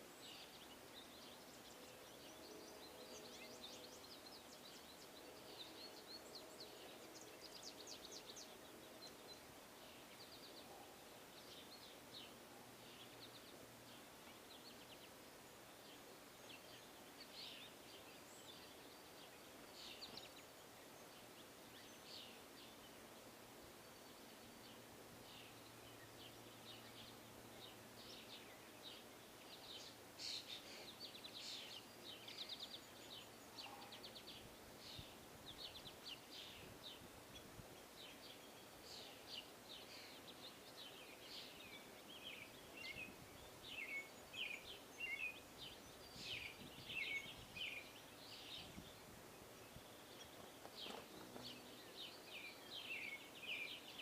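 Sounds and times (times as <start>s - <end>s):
faint steady hiss: 0.0s - 54.0s
small birds chirping: 0.0s - 54.0s.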